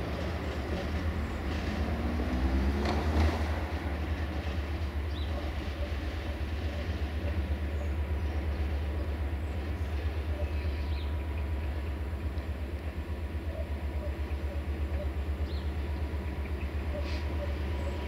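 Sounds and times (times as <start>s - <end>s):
locomotive engine rumble: 0.0s - 18.0s.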